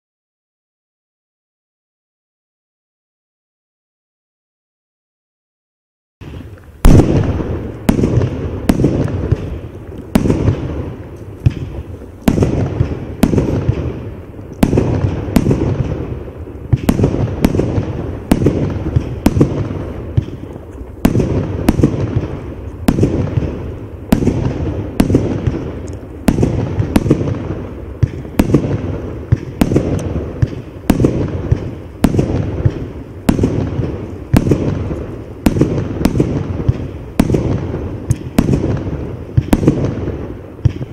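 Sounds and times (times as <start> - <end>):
firework bangs: 6.2 - 40.9
low rumbling echo: 6.2 - 40.9.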